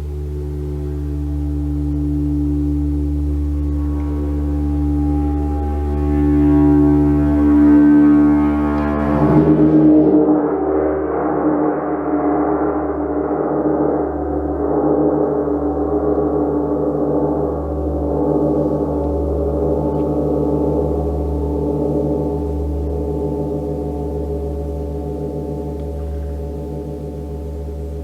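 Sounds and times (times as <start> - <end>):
gong ringing: 0.0 - 28.0
low pulsing beat: 0.0 - 28.0.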